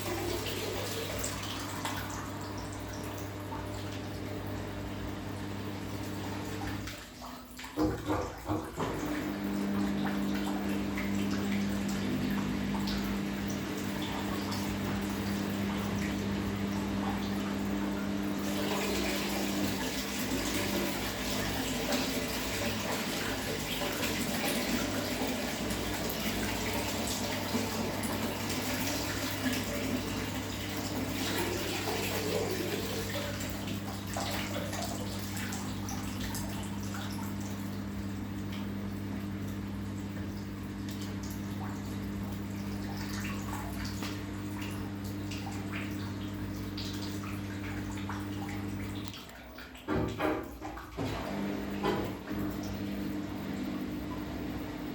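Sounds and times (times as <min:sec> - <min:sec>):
water splashing into drum: 0:00.0 - 0:52.8
washing machine low hum: 0:00.0 - 0:54.9.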